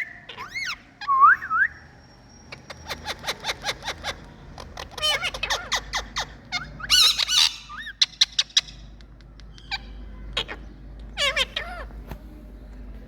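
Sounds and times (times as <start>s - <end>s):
parrots calling: 0.0s - 12.0s.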